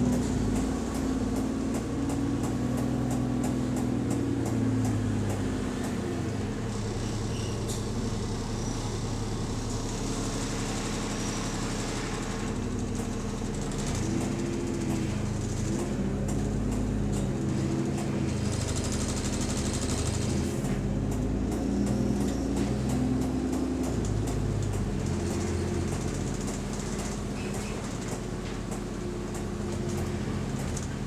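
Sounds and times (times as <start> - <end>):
bus engine: 0.0 - 31.0.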